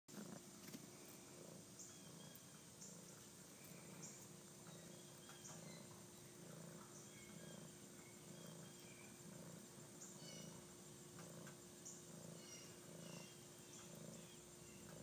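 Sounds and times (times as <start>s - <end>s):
kitten purring: 0.1s - 15.0s.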